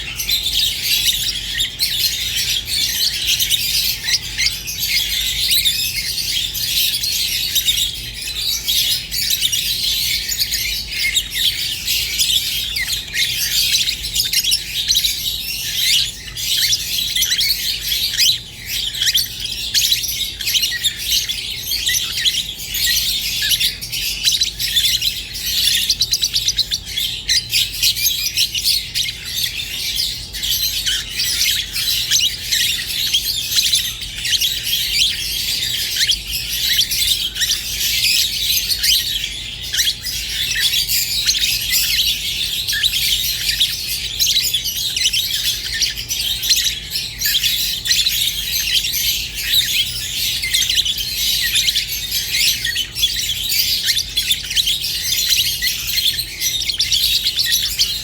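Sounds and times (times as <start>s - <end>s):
lovebirds chirping and twittering: 0.0s - 58.0s.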